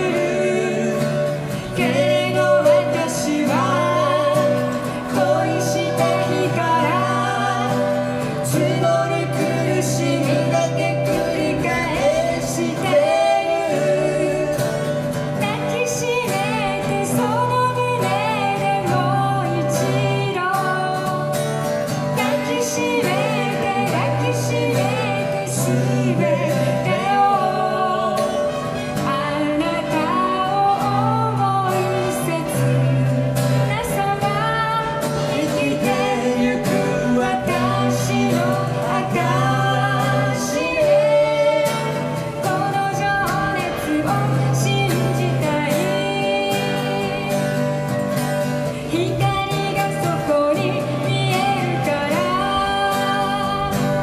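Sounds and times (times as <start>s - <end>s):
acoustic guitars strumming: 0.0s - 54.0s
woman and man singing: 0.0s - 54.0s.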